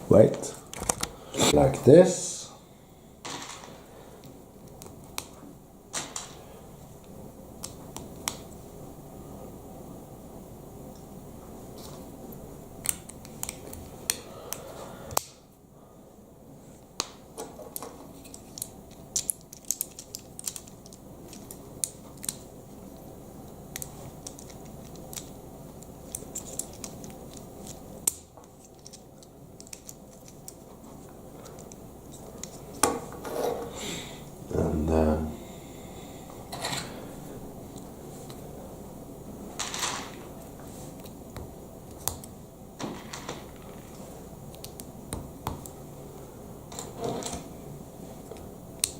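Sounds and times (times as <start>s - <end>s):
low background hum: 0.0s - 48.9s.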